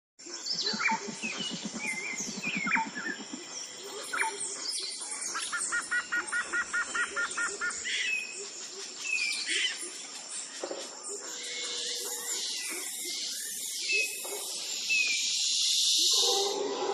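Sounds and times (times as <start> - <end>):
small birds chirping: 0.2 - 16.9.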